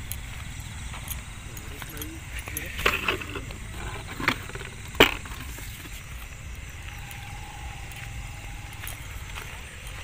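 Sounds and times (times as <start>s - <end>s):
faint thin steady tone: 0.0s - 10.0s
low steady rumble: 0.0s - 10.0s.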